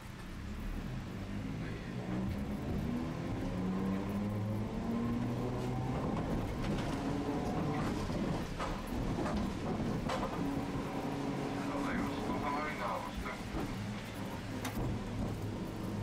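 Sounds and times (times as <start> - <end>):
tram motors whining: 0.3 - 16.0.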